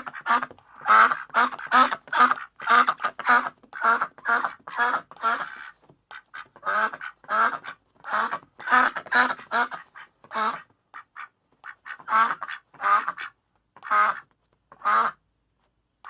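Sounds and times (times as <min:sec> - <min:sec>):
ducks quacking: 0:00.0 - 0:15.2.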